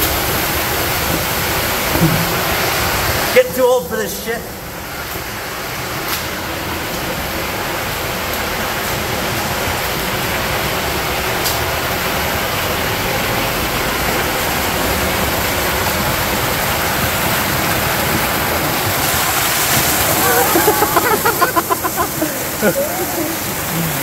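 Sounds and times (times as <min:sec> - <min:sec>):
water rushing through metal pipe: 0:00.0 - 0:03.5, 0:04.6 - 0:24.0.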